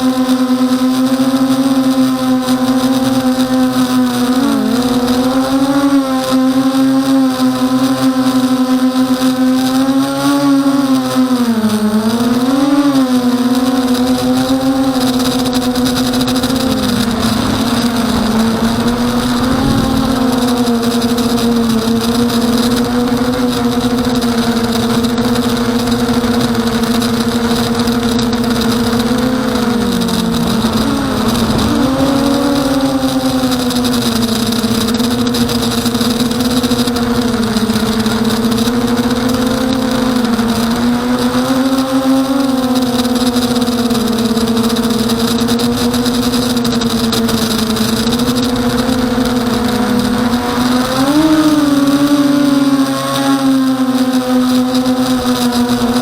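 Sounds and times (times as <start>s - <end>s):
quadcopter propellers buzzing: 0.0s - 56.0s.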